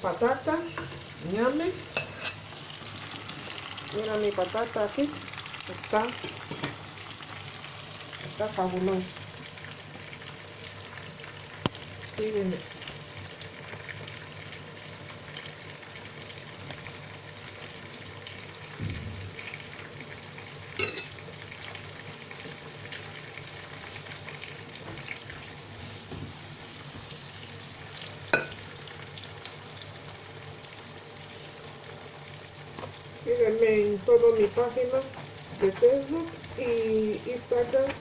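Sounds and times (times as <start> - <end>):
stew base sizzling in oil: 0.0 - 38.0.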